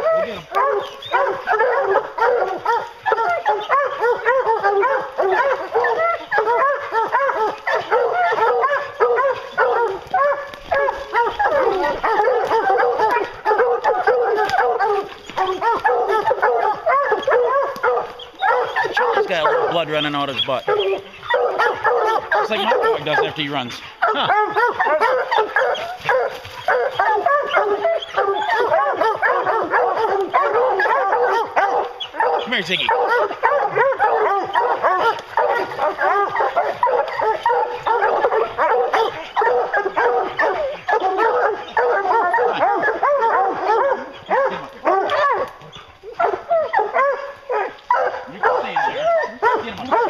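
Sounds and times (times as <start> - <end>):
hounds barking: 0.0 - 50.0.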